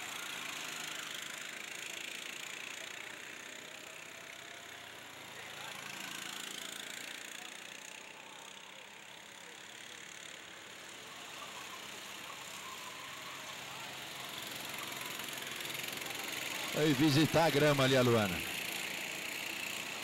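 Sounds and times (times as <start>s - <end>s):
go-kart engines droning: 0.0s - 20.0s.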